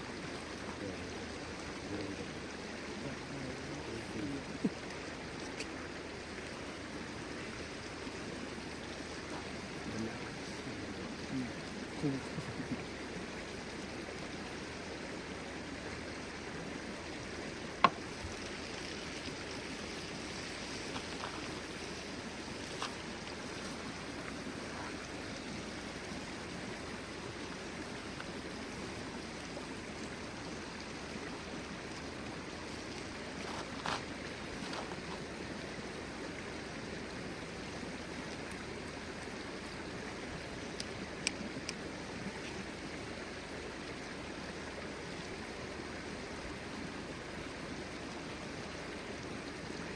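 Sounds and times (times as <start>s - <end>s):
stream flowing: 0.0s - 49.9s.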